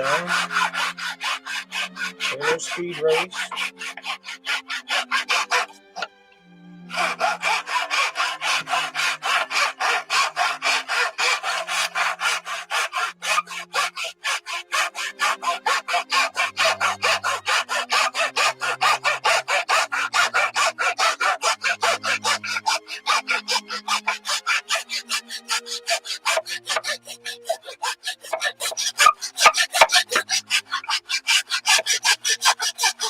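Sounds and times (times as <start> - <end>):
hand saw cutting plastic: 0.0 - 6.1, 6.9 - 33.0.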